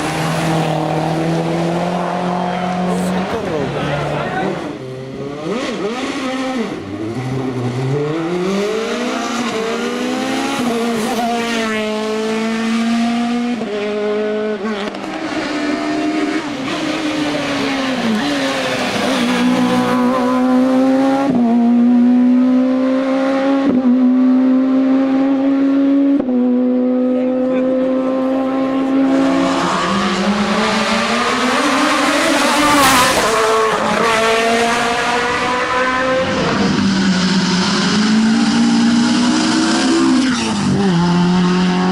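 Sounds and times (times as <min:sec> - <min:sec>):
racing car engine at full throttle: 0:00.0 - 0:41.9.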